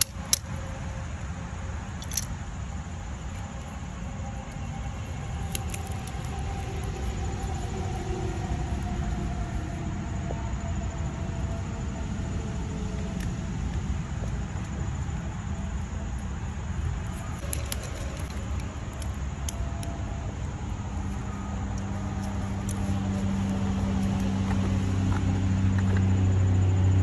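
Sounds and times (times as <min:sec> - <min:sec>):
distant traffic rumble: 0:00.0 - 0:27.0
faint hum: 0:00.0 - 0:27.0.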